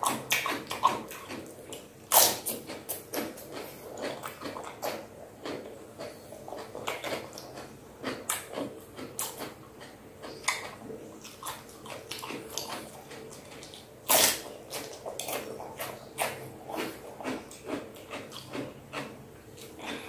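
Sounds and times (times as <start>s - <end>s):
person chewing cucumber: 0.0s - 20.0s
loud crunching bite: 2.1s - 10.7s, 11.3s - 20.0s.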